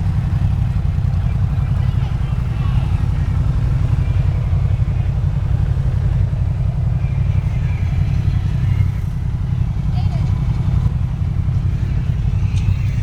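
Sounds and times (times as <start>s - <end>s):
faint voices: 0.0s - 13.0s
vehicle engine running: 0.0s - 13.0s.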